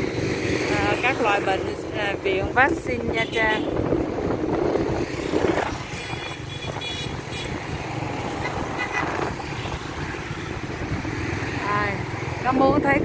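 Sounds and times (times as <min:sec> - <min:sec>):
cars and motorbikes passing: 0:00.0 - 0:13.0
traffic rumble: 0:00.0 - 0:13.0.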